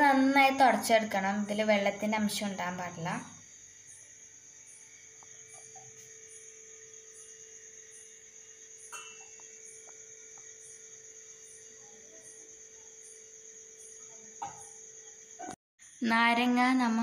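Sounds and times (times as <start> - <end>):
electrical hum with high whine: 0.0 - 17.0.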